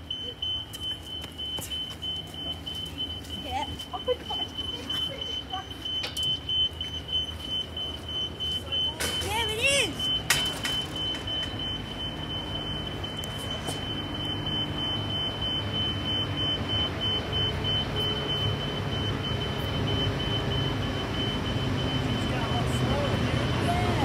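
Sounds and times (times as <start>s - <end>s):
diesel locomotive engines droning: 0.0s - 24.0s.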